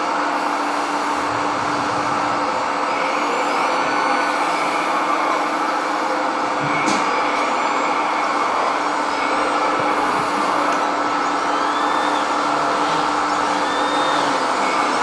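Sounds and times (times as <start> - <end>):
high motor whines: 0.0 - 15.0
small motors whirring: 0.3 - 15.0.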